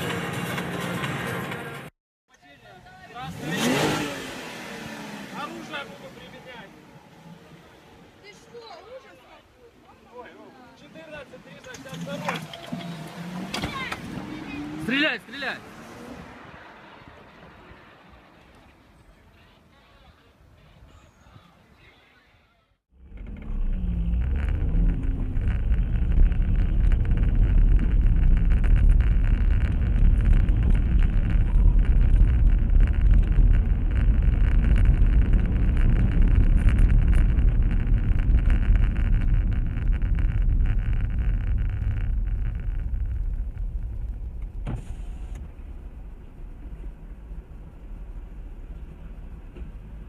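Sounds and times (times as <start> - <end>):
car engine and road noise: 0.0 - 20.7, 22.9 - 50.0.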